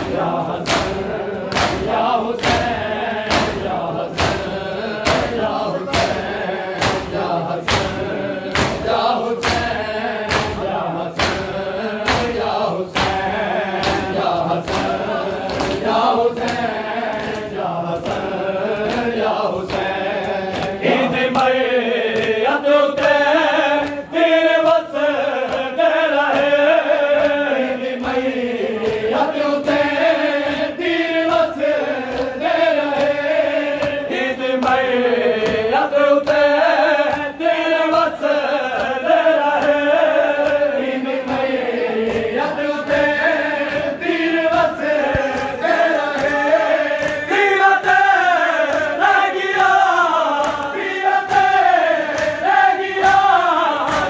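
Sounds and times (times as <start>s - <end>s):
hands slapping bare chests: 0.0s - 54.0s
men chanting in unison: 0.0s - 54.0s.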